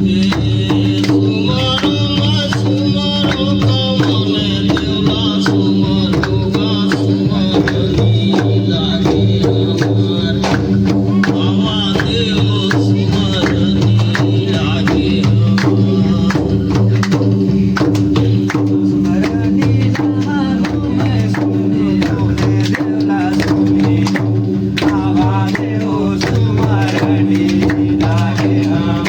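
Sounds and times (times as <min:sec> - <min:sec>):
drums and jingling percussion: 0:00.0 - 0:29.0.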